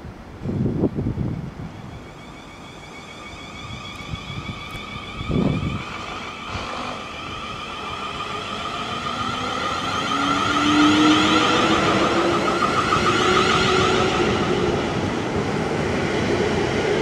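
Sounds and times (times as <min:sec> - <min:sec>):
wind gust on microphone: 0:00.0 - 0:02.3, 0:03.4 - 0:17.0
electric train whine: 0:01.0 - 0:17.0.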